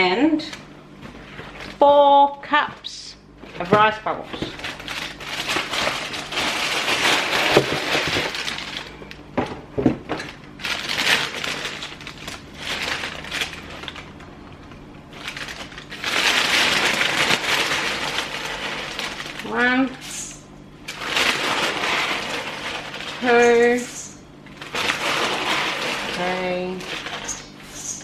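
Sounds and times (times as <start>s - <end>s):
plastic packet rustling: 2.7s - 9.1s, 10.1s - 20.0s, 20.9s - 28.0s.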